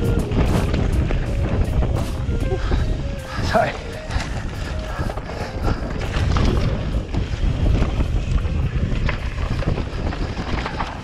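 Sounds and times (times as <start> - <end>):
bike rattling over bumps: 0.0 - 11.0
bike tyres rolling on dirt: 0.0 - 11.0
wind on microphone: 0.0 - 11.0.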